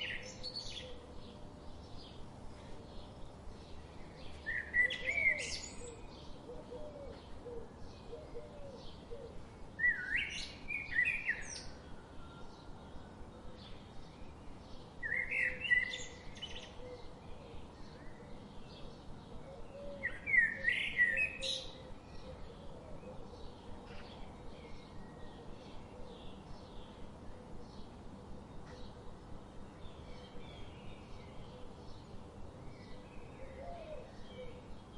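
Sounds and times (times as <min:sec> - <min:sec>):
faint background bird chirping: 0:00.0 - 0:34.9.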